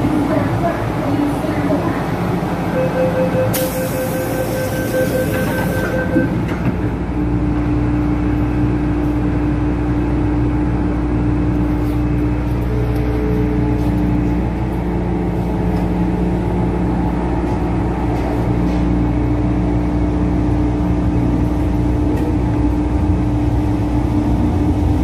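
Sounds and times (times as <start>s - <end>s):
electric traction hum: 0.0s - 25.0s
train running noise: 0.0s - 25.0s.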